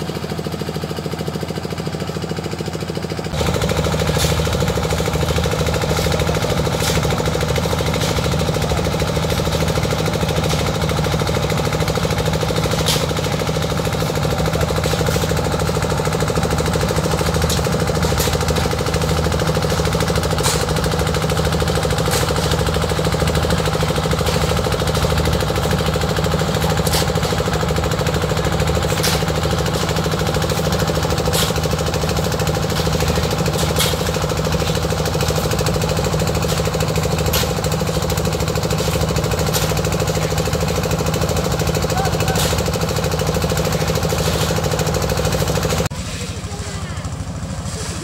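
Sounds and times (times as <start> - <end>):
concrete mixer engine knocking: 0.0 - 47.7.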